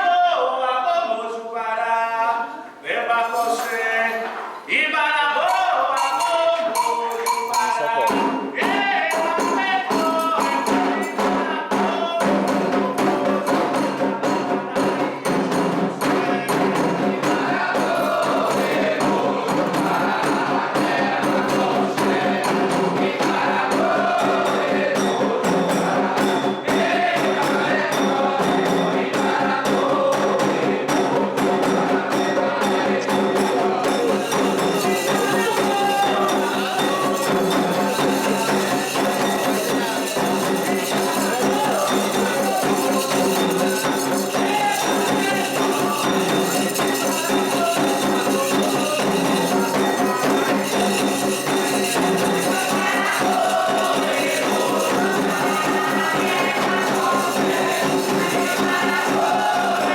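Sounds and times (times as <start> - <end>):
group of voices chanting: 3.7 - 59.9
fast hand percussion: 5.3 - 59.9
struck rhythm instrument: 5.4 - 59.9.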